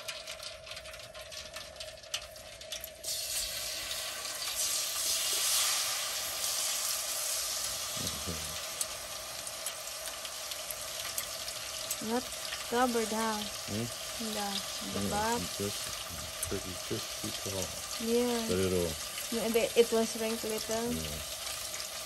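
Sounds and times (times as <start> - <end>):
turkey sizzling in hot oil: 0.0 - 22.0.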